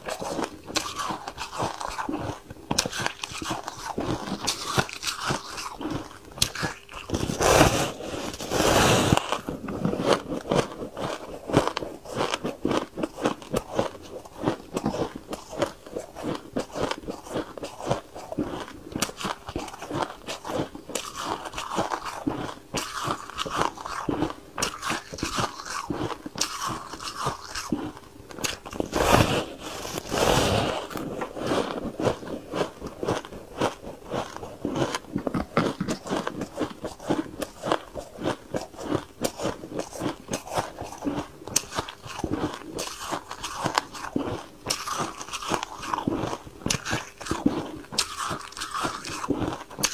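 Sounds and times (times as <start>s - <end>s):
chewing and crunching ice: 0.0s - 49.9s.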